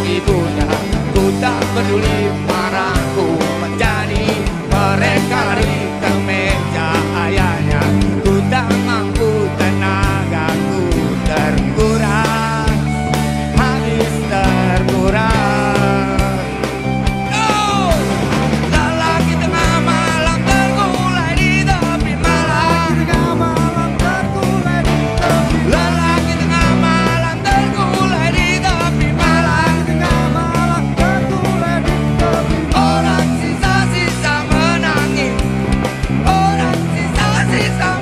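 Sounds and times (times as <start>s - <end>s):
bending lead guitar line: 0.0s - 38.0s
live rock band playing: 0.0s - 38.0s.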